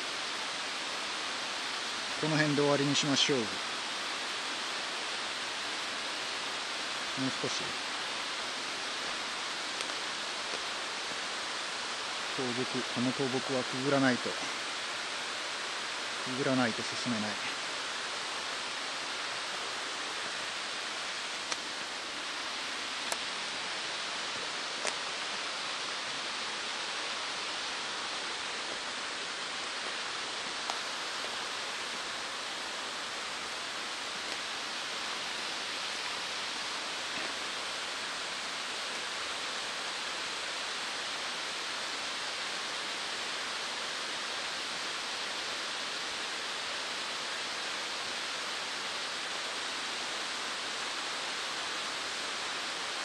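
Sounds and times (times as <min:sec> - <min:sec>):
steady rushing hiss: 0:00.0 - 0:53.0.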